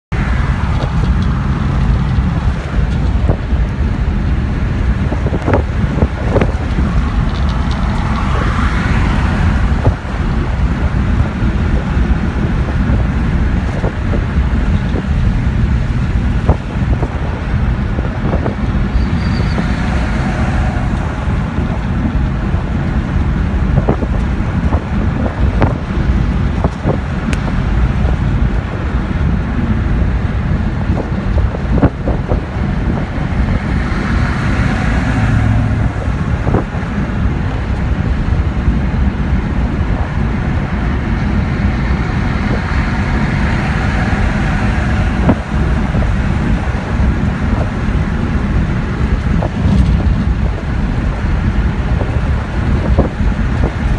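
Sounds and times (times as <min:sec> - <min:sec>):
car engine and road rumble: 0:00.0 - 0:53.9
wind noise: 0:00.1 - 0:53.9.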